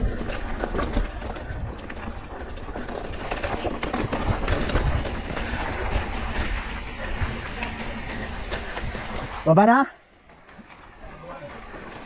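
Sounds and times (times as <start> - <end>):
bike rattling over bumps: 0.0 - 12.0
bike tyre rumble on dirt: 0.0 - 12.0.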